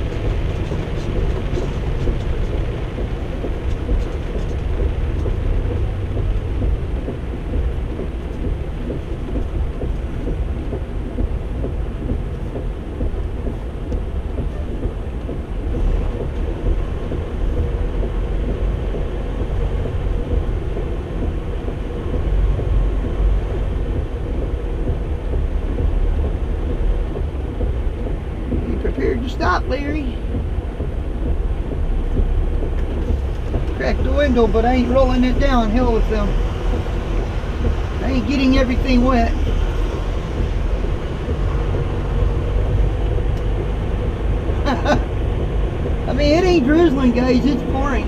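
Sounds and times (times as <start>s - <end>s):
heavy rain: 0.0s - 48.0s
truck engine and road rumble: 0.0s - 48.0s.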